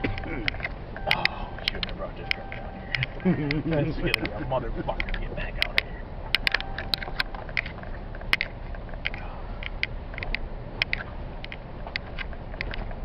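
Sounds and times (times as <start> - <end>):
cab rattling and clicking: 0.0 - 13.0
engine and tyres rumbling: 0.0 - 13.0.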